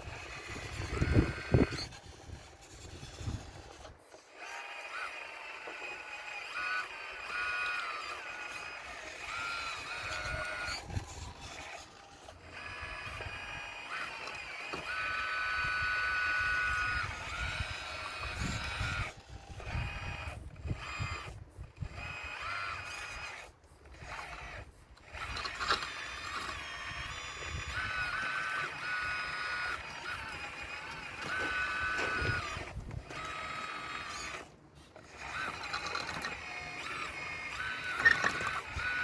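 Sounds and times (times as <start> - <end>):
electric motors whining: 0.0 - 39.0.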